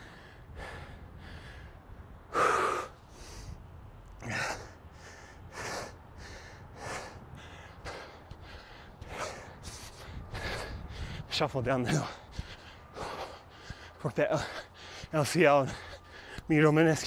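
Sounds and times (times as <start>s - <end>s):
man breathing hard: 0.0s - 16.5s.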